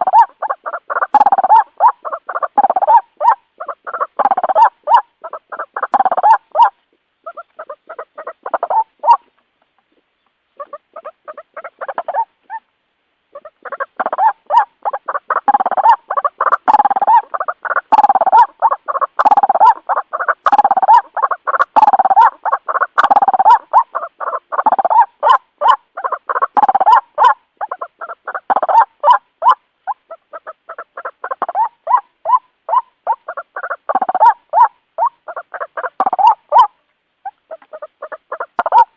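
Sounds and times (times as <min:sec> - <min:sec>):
waterhen croaking calls: 0:00.0 - 0:12.7, 0:13.3 - 0:38.9.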